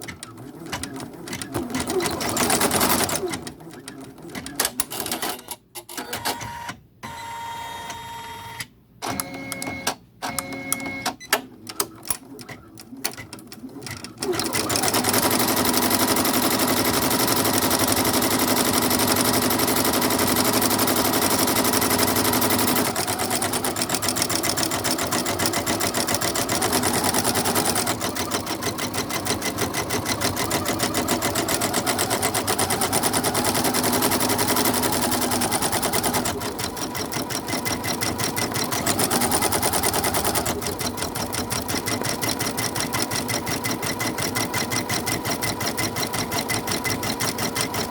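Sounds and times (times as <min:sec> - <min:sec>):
embroidery machine stitching: 0:00.0 - 0:06.4, 0:09.0 - 0:47.9.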